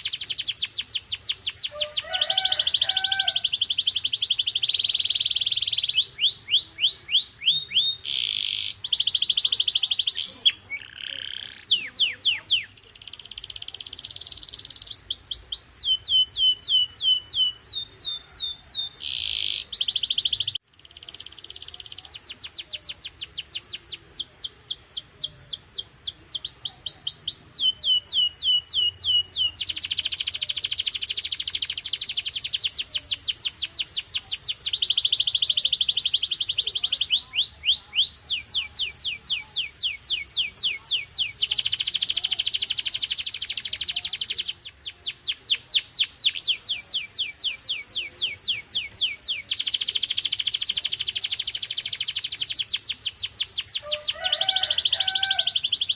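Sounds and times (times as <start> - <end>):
canary singing: 0.0 - 55.9.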